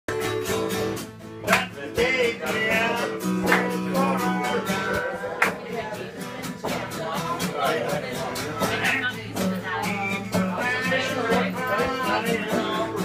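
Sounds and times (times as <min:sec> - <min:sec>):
acoustic guitar strumming chords: 0:00.1 - 0:13.0.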